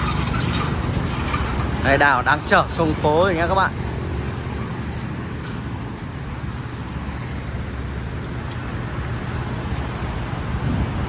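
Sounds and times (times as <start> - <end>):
low engine rumble: 0.0 - 11.0
road noise: 0.0 - 11.0.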